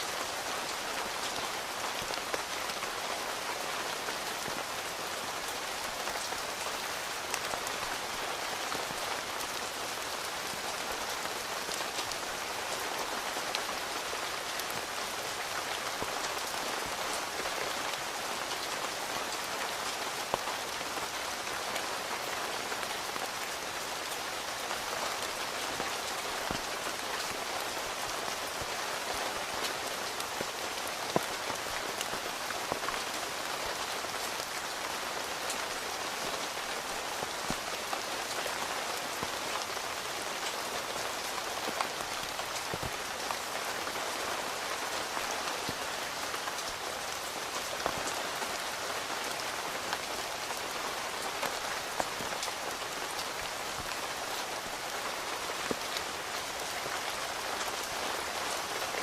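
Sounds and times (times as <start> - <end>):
rain falling on a tent: 0.0 - 59.0.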